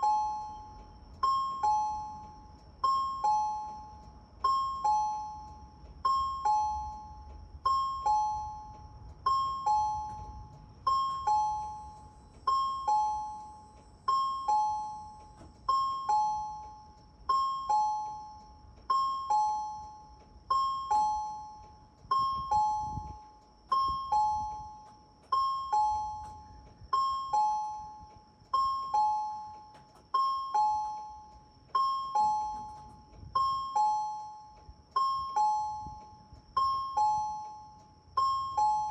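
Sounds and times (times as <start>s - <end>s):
bus turn-warning chime: 0.0s - 38.9s.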